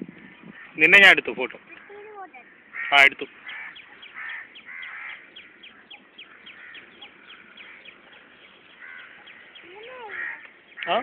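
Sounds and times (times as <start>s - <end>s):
birds chirping: 0.0s - 11.0s
harsh bird calls: 0.1s - 11.0s.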